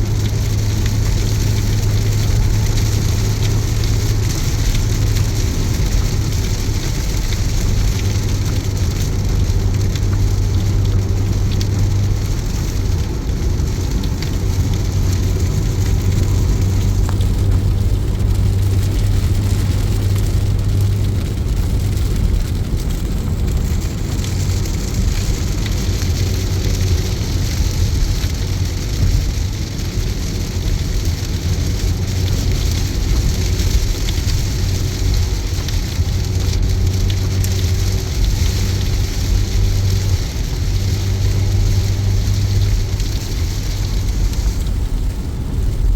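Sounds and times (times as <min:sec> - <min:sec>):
heavy rain drumming on a car: 0:00.0 - 0:45.9
road and engine hum: 0:00.0 - 0:45.9.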